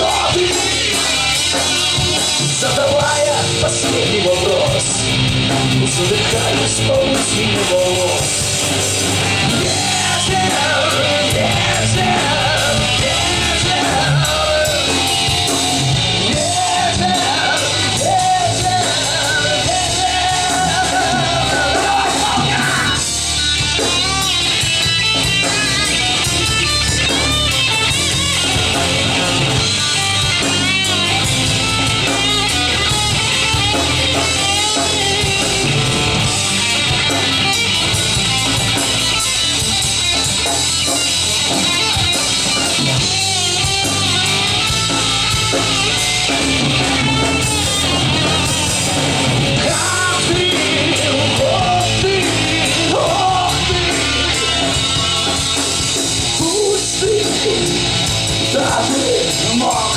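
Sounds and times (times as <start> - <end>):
bending guitar melody: 0.0 - 59.9
live rock band playing: 0.0 - 59.9.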